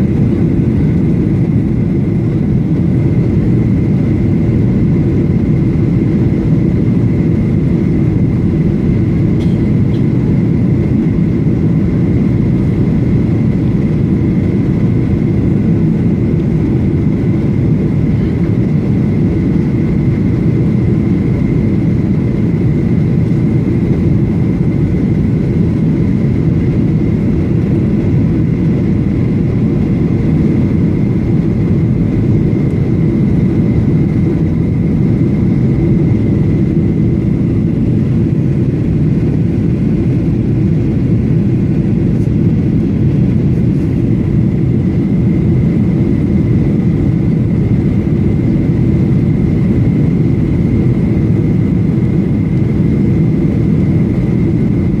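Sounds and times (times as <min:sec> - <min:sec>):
aircraft cabin roar: 0:00.0 - 0:55.0
thin high engine whine: 0:00.0 - 0:55.0.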